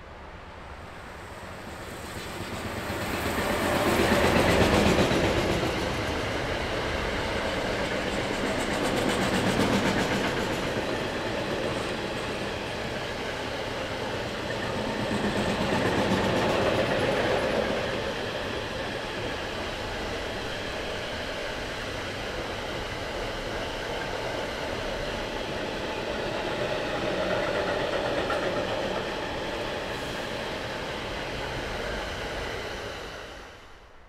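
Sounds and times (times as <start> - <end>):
train wheels rumbling on rails: 1.0 - 34.0.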